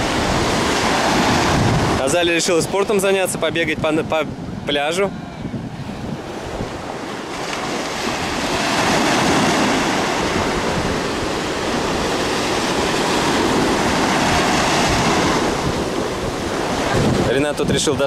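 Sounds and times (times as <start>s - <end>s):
sea surf breaking on sand: 0.0s - 18.0s.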